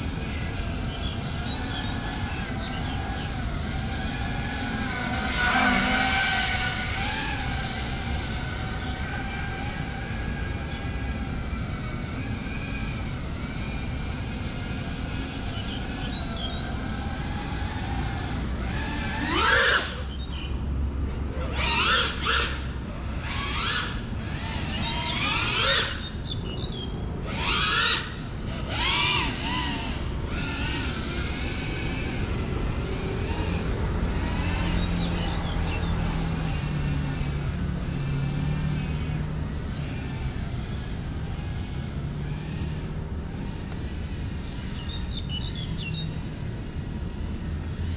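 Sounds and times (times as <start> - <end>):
drone propellers whining: 0.0 - 47.9.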